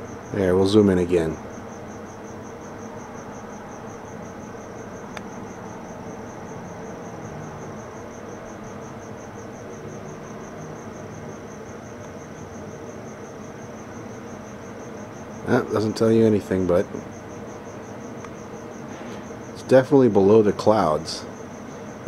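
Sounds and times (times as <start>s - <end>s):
crickets chirping: 0.0s - 22.0s
low background hiss: 0.0s - 22.0s.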